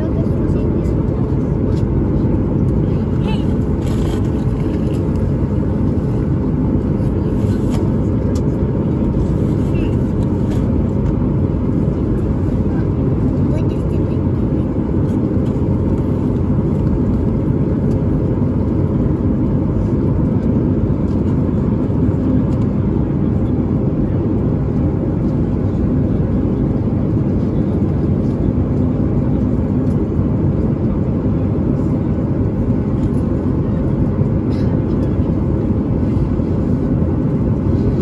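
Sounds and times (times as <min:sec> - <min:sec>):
aircraft cabin engine noise: 0:00.0 - 0:38.0.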